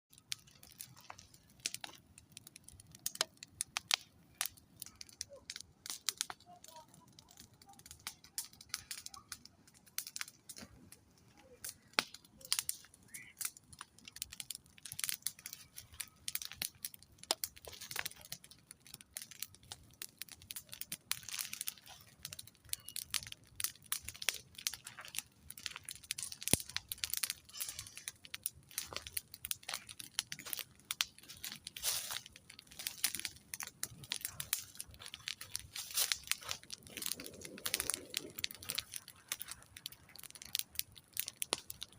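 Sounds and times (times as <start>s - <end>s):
campfire crackling and popping: 0.1s - 41.9s.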